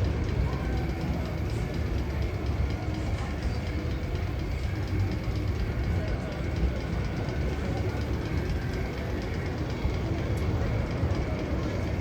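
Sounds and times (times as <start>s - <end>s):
low rumble with rapid clatter: 0.0s - 12.0s.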